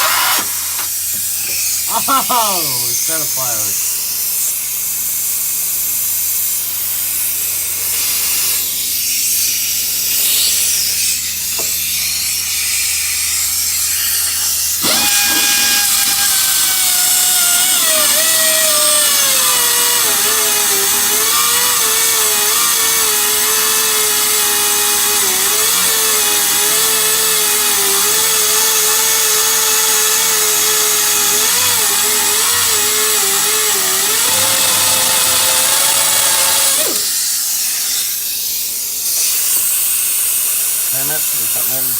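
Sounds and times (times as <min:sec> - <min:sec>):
pneumatic air cutter grinding bolt: 0:00.0 - 0:03.8, 0:11.0 - 0:41.6.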